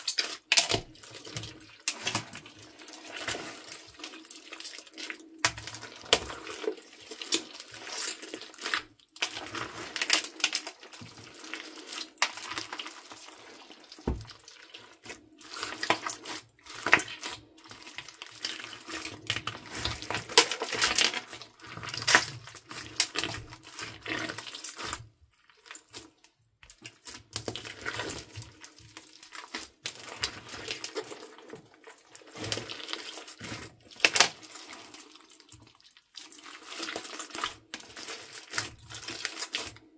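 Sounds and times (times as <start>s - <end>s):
slime squelching: 0.0s - 39.9s.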